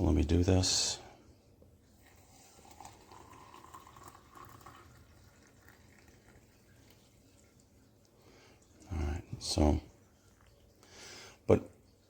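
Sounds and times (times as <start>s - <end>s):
water pouring over coffee grounds: 1.8s - 12.0s.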